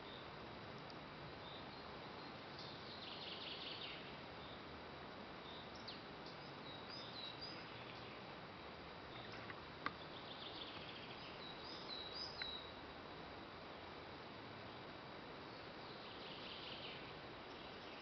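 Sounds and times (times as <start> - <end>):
faint steady hiss: 0.0 - 18.0
small birds chirping: 1.3 - 12.8, 14.6 - 18.0.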